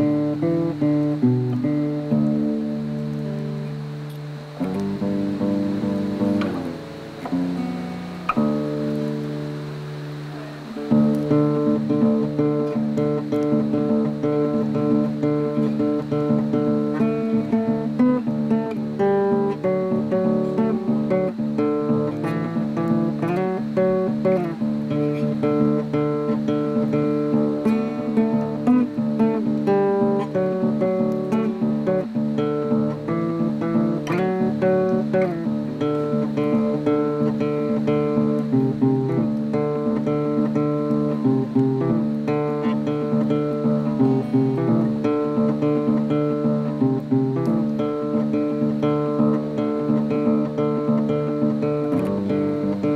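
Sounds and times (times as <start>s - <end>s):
acoustic guitar music: 0.0s - 52.9s.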